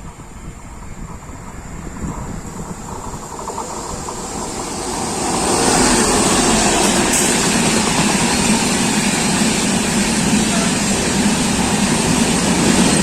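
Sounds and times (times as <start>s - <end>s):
train passing on rails: 0.0s - 13.0s.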